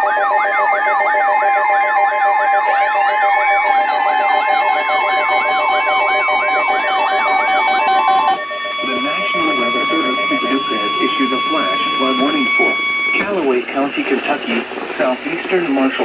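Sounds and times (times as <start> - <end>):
siren tone gliding up: 0.0 - 13.5
yelp siren: 0.0 - 13.5
two-tone hi-lo siren: 0.0 - 13.6.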